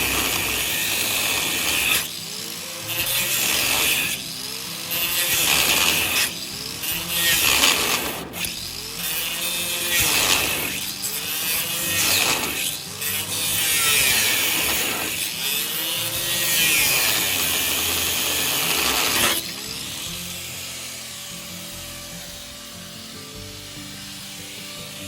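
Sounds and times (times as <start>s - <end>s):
power grinder grinding metal: 0.0s - 25.0s.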